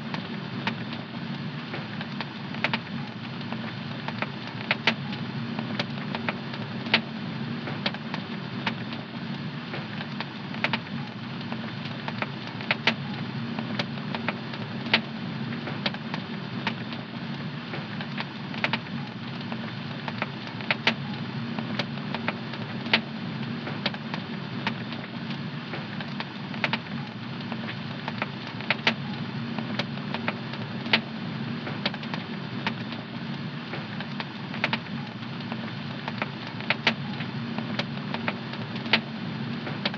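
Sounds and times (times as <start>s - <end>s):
fireplace fire crackling and popping: 0.0s - 39.9s.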